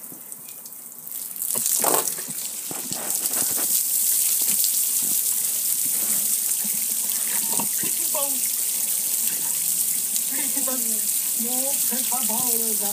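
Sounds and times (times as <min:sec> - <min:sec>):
water splashing on grill: 0:00.0 - 0:12.9.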